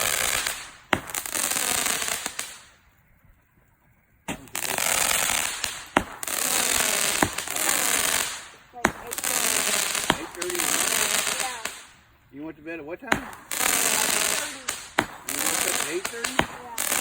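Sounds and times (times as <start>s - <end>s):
fireworks bangs: 0.0s - 3.0s, 4.2s - 17.0s
fireworks crackling: 0.0s - 17.0s.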